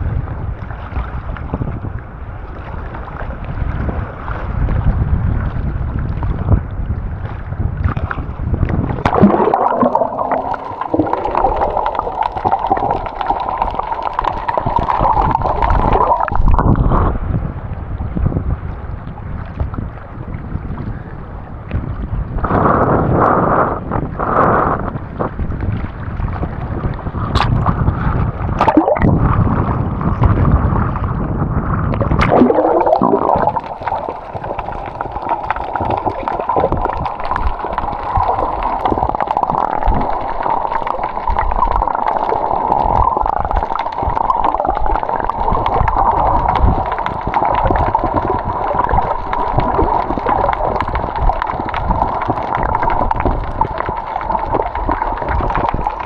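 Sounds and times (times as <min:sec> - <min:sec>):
water gurgling and sloshing: 0:00.0 - 0:56.0.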